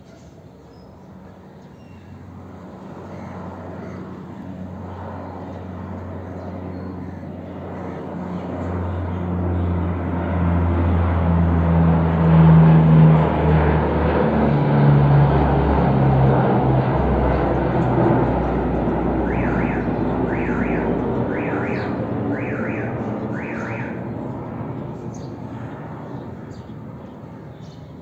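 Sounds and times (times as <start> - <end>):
propeller aircraft drone: 0.0 - 28.0.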